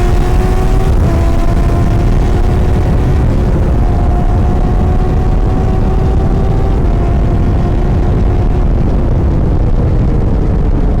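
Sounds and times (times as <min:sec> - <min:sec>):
sport bike engine running loud: 0:00.0 - 0:11.0.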